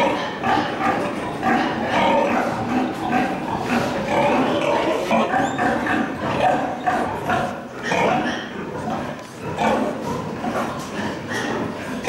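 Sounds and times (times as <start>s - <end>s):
pigs squealing and grunting: 0.0s - 12.0s.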